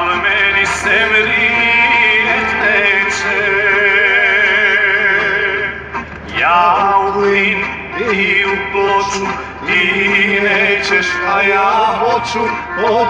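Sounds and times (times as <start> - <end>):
men singing: 0.0 - 13.0.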